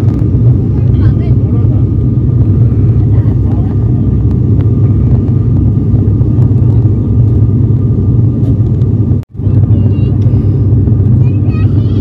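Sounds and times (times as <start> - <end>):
turboprop engines droning in cabin: 0.0 - 12.0.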